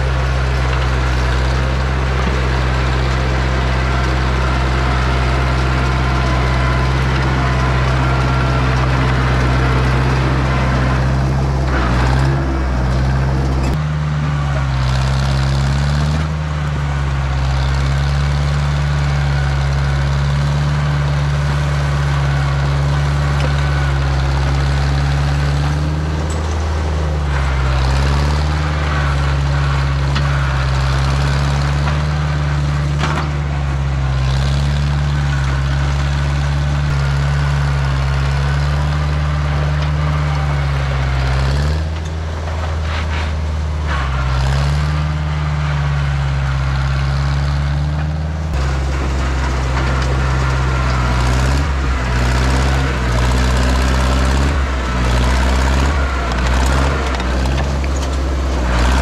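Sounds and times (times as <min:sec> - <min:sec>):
bulldozer engine lugging: 0:00.0 - 0:59.0.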